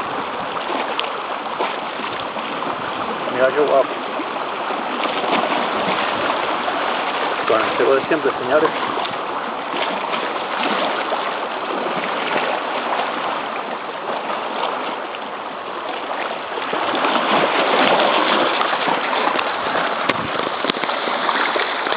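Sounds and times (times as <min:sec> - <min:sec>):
sea washing against rocky shore: 0:00.0 - 0:21.9.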